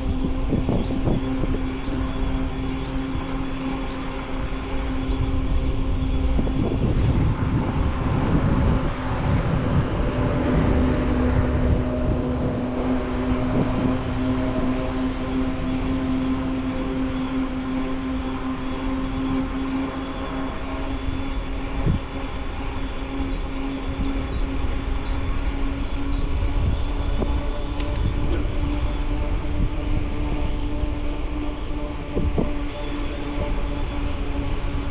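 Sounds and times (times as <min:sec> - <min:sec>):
bike drive and tyres humming: 0:00.0 - 0:34.9
wind on microphone: 0:00.0 - 0:34.9.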